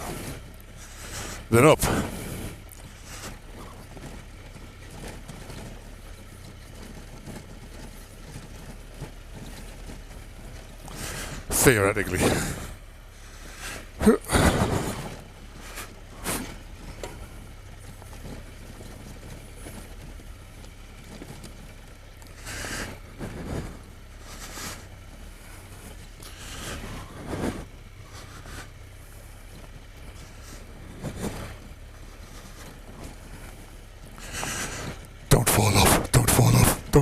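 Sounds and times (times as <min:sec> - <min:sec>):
motorcycle engine running slowly: 0:00.0 - 0:37.0.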